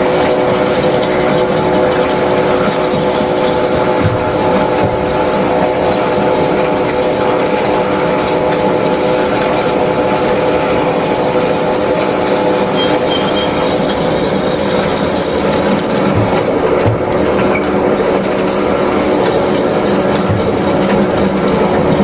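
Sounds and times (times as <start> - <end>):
lathe machine whine: 0.0 - 22.0.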